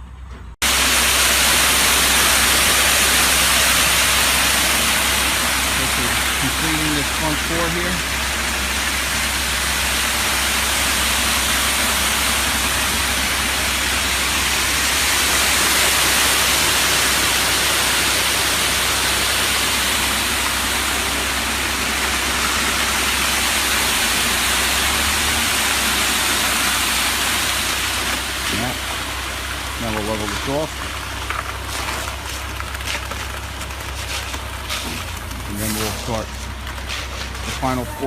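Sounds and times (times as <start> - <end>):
concrete truck rushing noise: 0.0 - 38.0.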